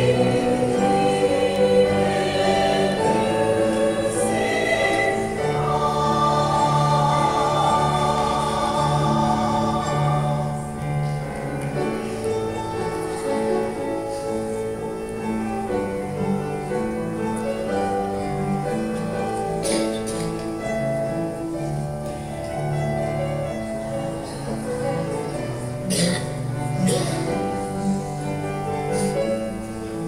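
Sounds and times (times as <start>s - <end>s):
slow piano music: 0.0s - 30.0s.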